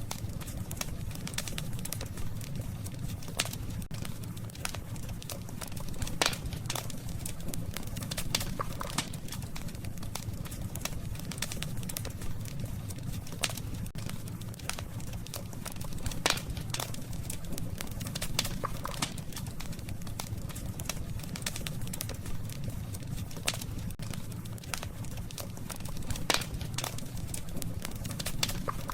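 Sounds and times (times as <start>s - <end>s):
burning wood crackling and popping: 0.0s - 28.9s
low fire rumble: 0.0s - 28.9s.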